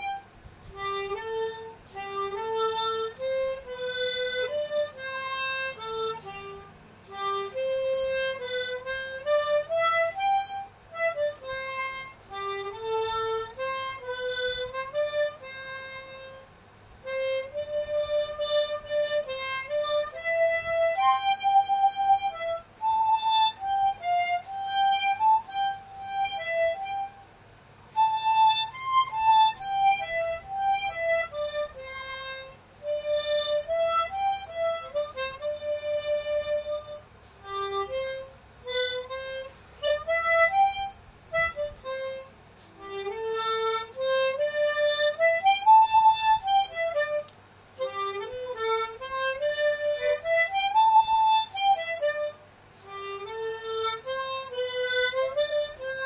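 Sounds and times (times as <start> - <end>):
harmonica melody: 0.0 - 56.0.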